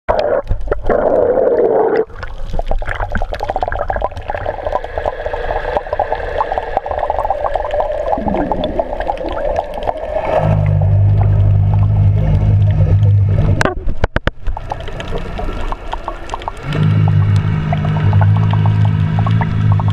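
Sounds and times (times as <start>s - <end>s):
crackle of small clicks: 0.1s - 19.9s
water rushing and gurgling: 0.1s - 19.9s.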